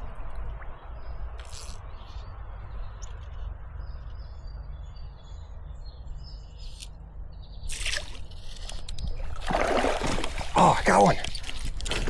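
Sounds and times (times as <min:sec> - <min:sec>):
small birds chirping: 0:00.7 - 0:11.7.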